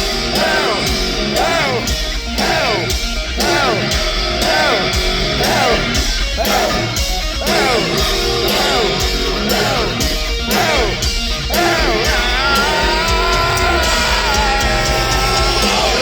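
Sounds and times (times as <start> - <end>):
bass guitar: 0.0 - 16.0
distorted electric guitar lick: 0.0 - 16.0
drums: 0.0 - 16.0.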